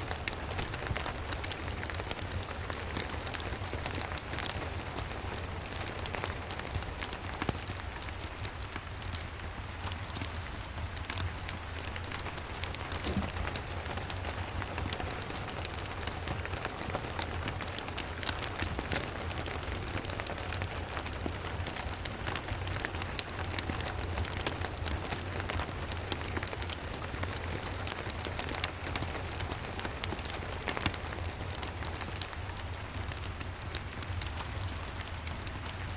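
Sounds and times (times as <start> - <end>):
steady rain: 0.0 - 35.9
log fire crackling: 0.1 - 35.9.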